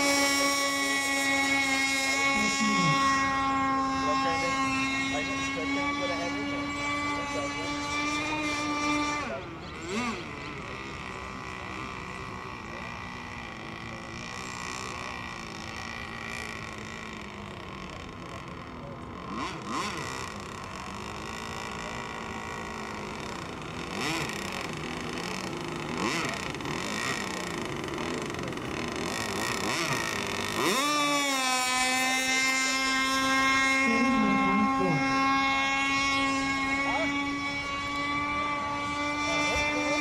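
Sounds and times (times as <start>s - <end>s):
model boat motor whining: 0.0s - 40.0s.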